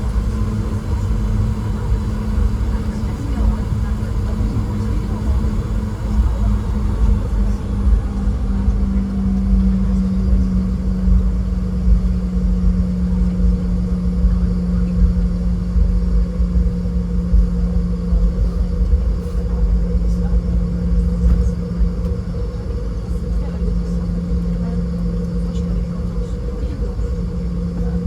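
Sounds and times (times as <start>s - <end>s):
jet engines idling in cabin: 0.0s - 28.0s.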